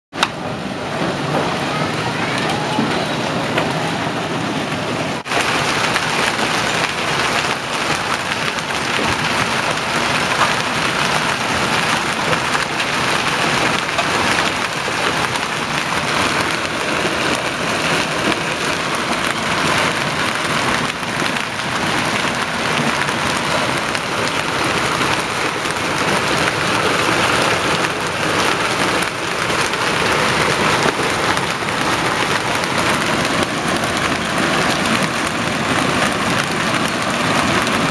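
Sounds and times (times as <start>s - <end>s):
hail and rain on pavement: 0.2s - 37.9s.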